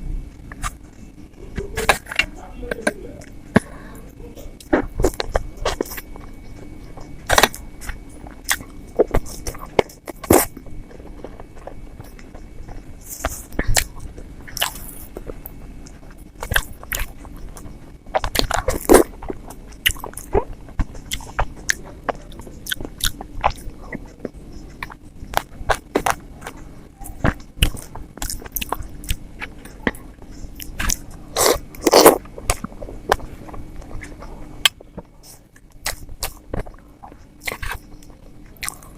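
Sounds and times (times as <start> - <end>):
wet chewing and mouth smacks: 4.6 - 38.9.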